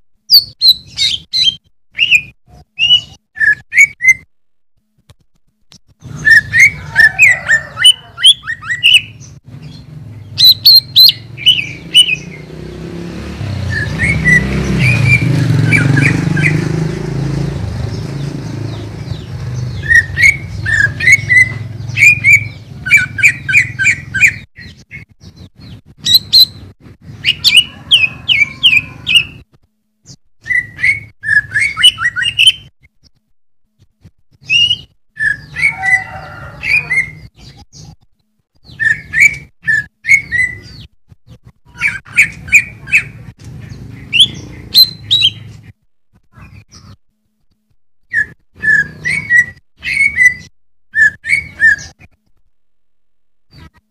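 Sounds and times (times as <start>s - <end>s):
bird chirping: 0.2s - 4.3s, 5.8s - 29.4s, 30.0s - 33.2s, 34.4s - 47.0s, 48.0s - 52.4s, 53.5s - 53.8s.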